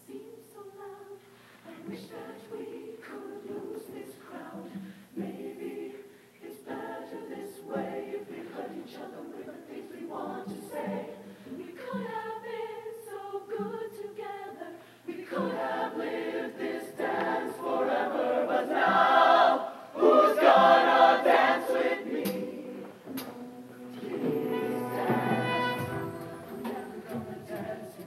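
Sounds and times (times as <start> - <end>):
choir singing in harmony: 0.0 - 28.0.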